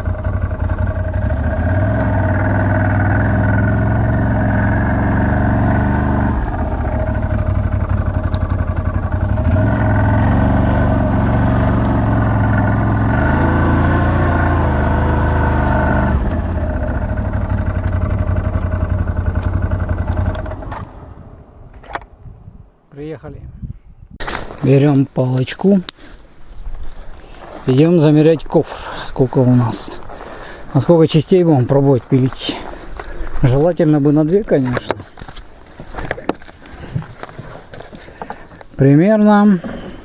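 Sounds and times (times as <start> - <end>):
vehicle engine running: 0.0 - 21.3, 26.9 - 38.5.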